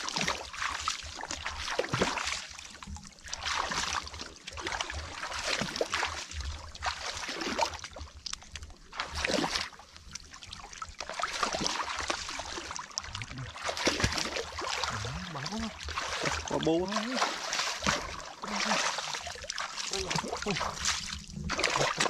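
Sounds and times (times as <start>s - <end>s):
muddy water splashing and sloshing: 0.0s - 22.0s.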